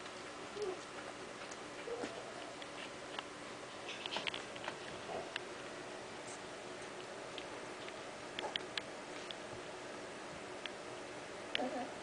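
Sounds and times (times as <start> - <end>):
puppies rustling: 0.0 - 9.7.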